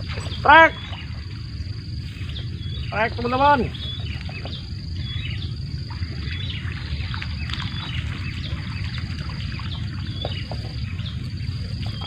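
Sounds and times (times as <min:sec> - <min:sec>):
small birds chirping: 0:00.0 - 0:12.0
wind rumble on microphone: 0:00.0 - 0:12.0.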